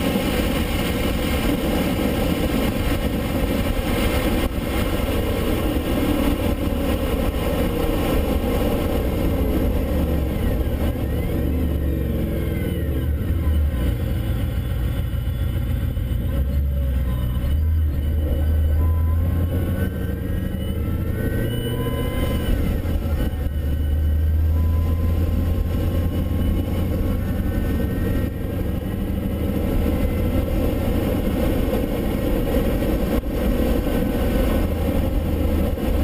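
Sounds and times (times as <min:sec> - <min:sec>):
car engine running hard: 0:00.0 - 0:36.0
road noise: 0:00.0 - 0:36.0
wind noise: 0:00.0 - 0:36.0.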